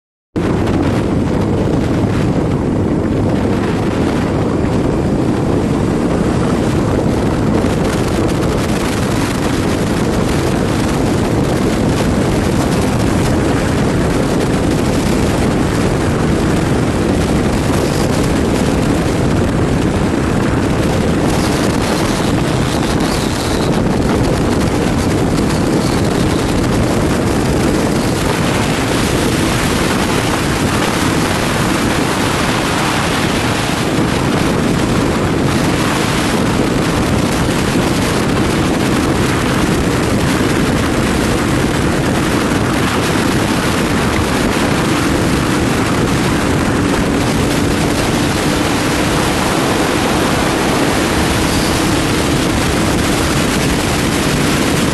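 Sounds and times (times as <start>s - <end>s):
motorcycle engine running: 0.4s - 54.9s
wind rushing on microphone: 0.4s - 54.9s.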